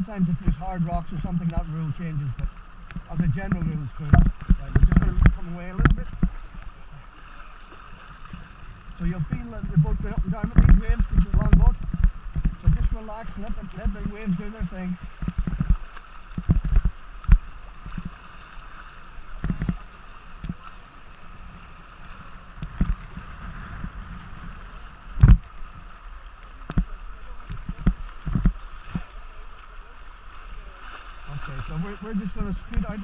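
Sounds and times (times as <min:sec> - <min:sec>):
rushing water: 0:00.0 - 0:33.0
water slapping against kayak: 0:00.0 - 0:33.0.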